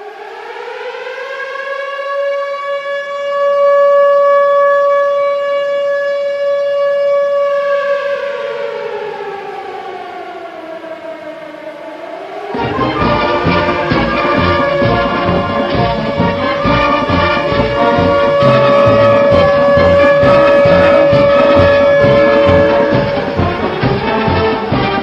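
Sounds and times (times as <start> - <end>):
siren goal horn: 0.0 - 25.0.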